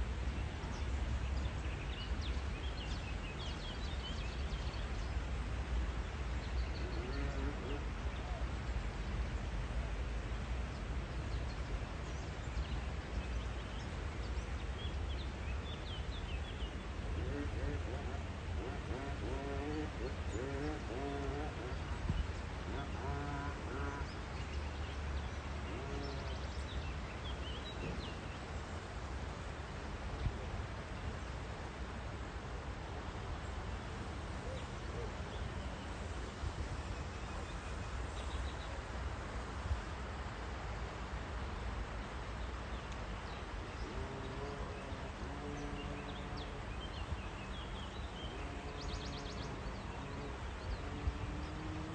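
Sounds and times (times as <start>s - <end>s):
low outdoor rumble: 0.0s - 51.9s.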